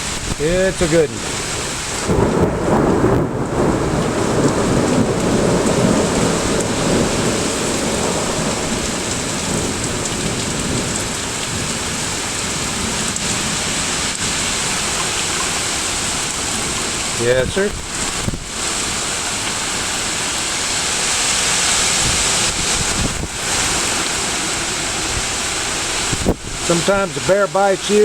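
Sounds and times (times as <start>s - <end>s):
thunder rumbling: 0.0s - 20.8s, 21.4s - 27.5s
heavy rain pouring: 0.0s - 28.0s.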